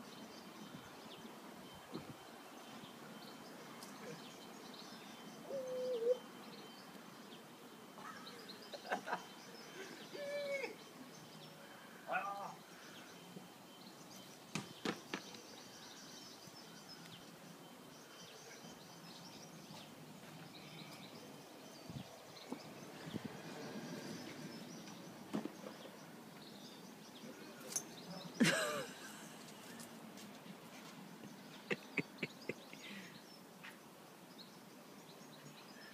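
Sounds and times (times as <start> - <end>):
faint bird chirps: 0.0 - 29.8
rustles: 0.0 - 34.7.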